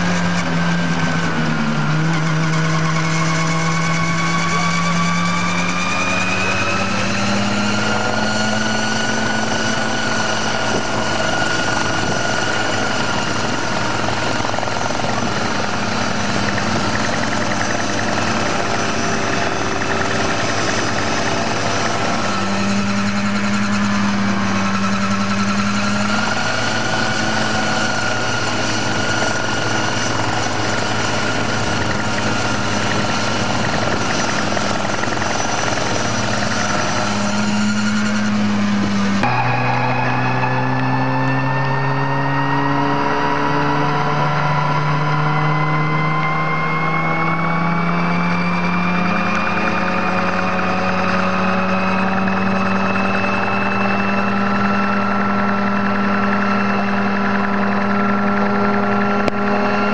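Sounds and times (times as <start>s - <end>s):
helicopter engine drone: 0.0s - 59.9s.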